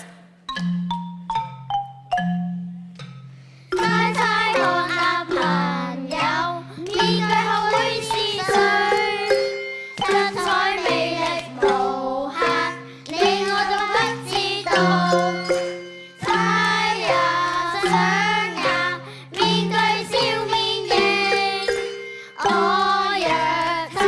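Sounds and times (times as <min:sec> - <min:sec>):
instrumental accompaniment: 0:00.0 - 0:24.0
children singing: 0:03.8 - 0:24.0.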